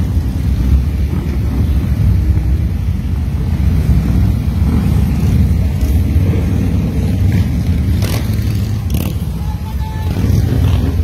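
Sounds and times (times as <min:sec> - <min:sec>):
motorcycles riding past: 0:00.0 - 0:11.0.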